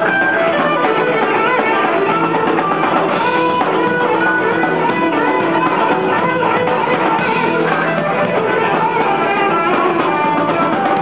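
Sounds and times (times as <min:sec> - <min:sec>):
electric guitar: 0:00.0 - 0:11.0
live rock band playing: 0:00.0 - 0:11.0.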